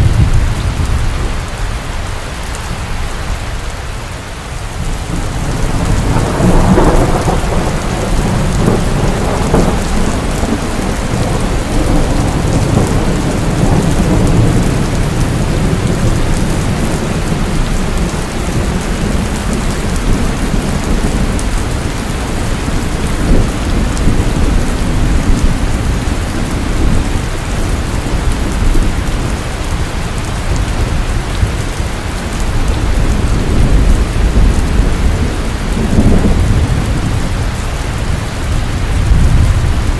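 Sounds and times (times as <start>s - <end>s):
thunder rumbling: 0.0s - 3.6s, 4.5s - 39.9s
steady rain falling: 0.0s - 39.9s.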